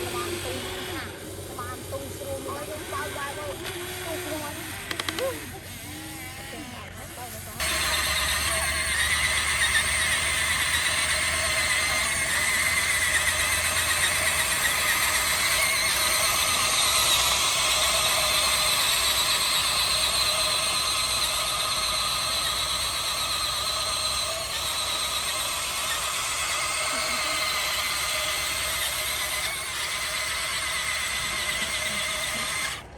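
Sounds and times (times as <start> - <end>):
toy excavator motors whining: 0.0 - 32.9.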